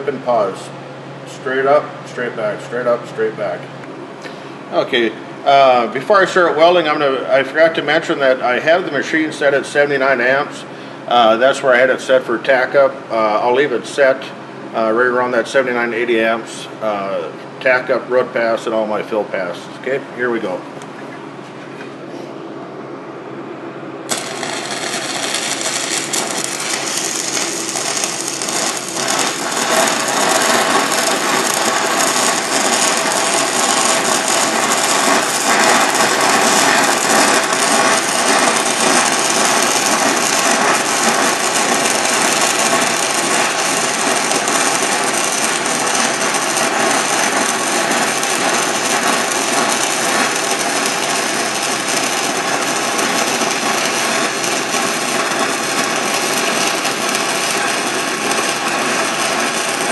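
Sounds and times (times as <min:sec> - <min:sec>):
welding arc crackling sizzle: 0:00.0 - 0:16.6, 0:24.0 - 0:59.9.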